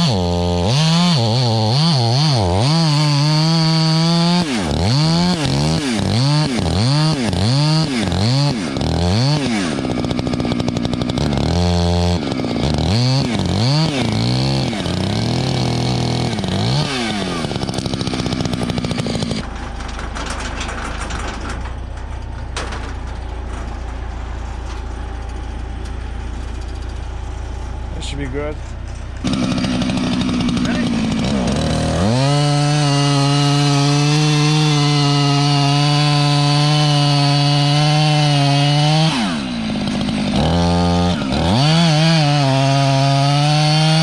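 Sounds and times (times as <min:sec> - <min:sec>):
chainsaw engine revving: 0:00.0 - 0:21.6, 0:29.2 - 0:44.0.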